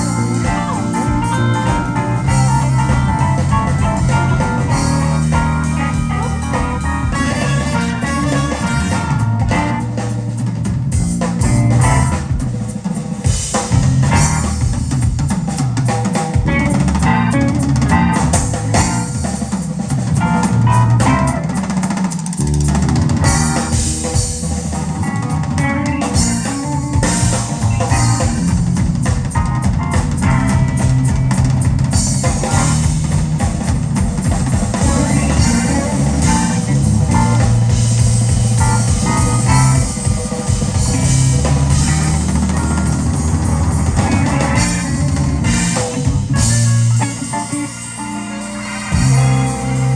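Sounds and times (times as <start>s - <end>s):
drum kit with rimshots: 0.0s - 49.9s
electric guitar: 0.0s - 49.9s.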